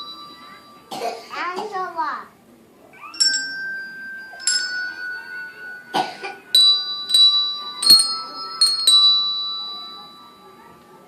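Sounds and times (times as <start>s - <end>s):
hand bells ringing: 0.0s - 0.9s, 3.0s - 11.0s.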